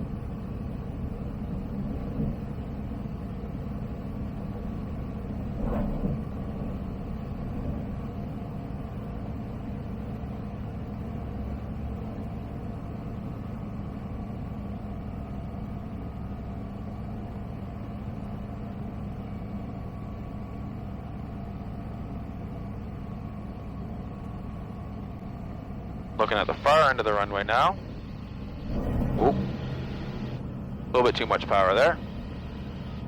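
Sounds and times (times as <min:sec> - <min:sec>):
aircraft engine and propeller droning: 0:00.0 - 0:33.0.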